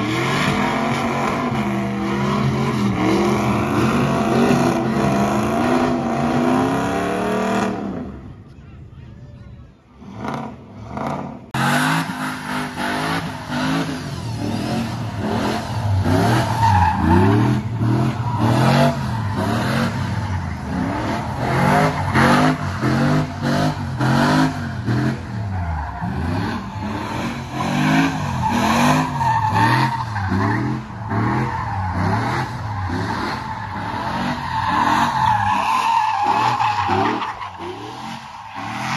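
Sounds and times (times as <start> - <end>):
truck engine revving: 0.0 - 8.0, 10.0 - 38.9
tires squealing on pavement: 0.0 - 8.2, 10.0 - 38.9.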